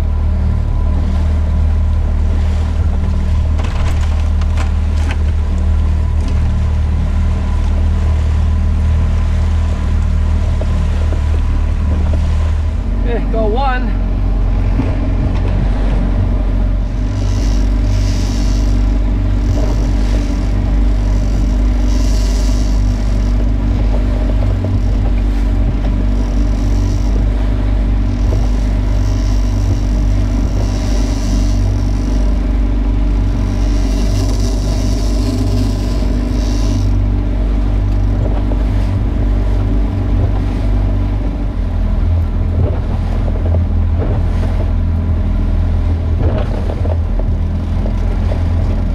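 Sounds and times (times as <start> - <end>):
outboard motor running: 0.0 - 48.9.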